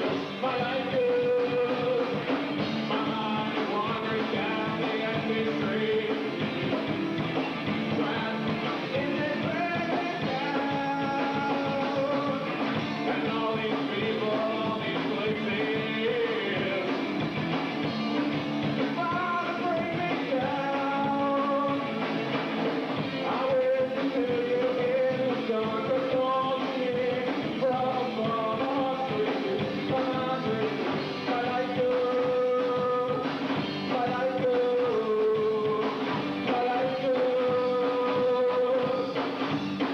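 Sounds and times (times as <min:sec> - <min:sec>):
live rock band with singing: 0:00.0 - 0:39.9.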